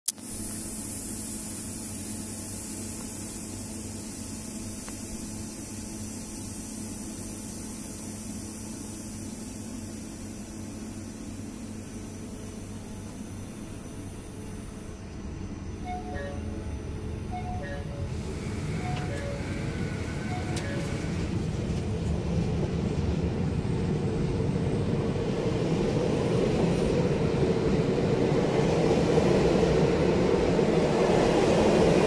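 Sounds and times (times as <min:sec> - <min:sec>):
electric train humming and hissing: 0:00.1 - 0:32.0.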